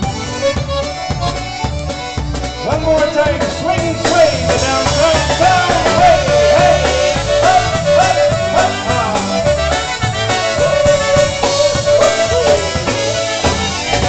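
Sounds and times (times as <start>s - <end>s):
polka band playing: 0.0s - 14.0s.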